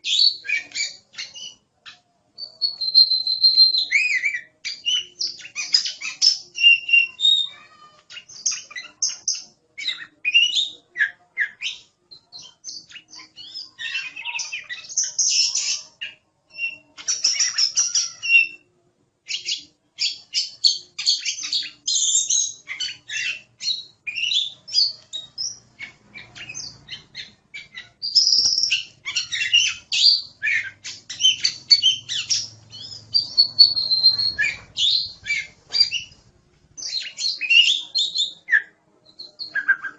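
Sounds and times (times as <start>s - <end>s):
bird singing: 0.0s - 18.7s, 19.3s - 36.2s, 36.8s - 39.9s.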